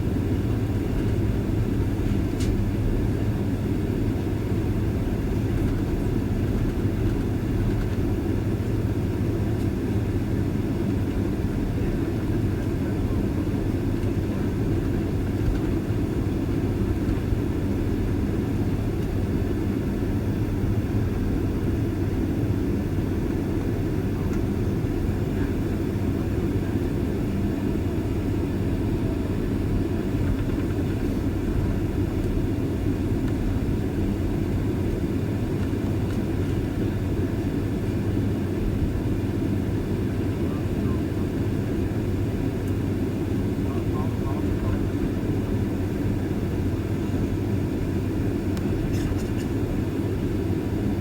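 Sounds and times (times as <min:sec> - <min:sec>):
jet engines idling: 0:00.1 - 0:51.0.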